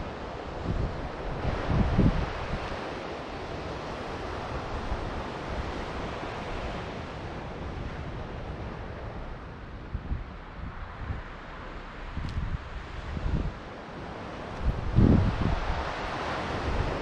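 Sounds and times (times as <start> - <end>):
ocean waves washing onto beach: 0.0 - 17.0
wind rumble on microphone: 0.0 - 17.0.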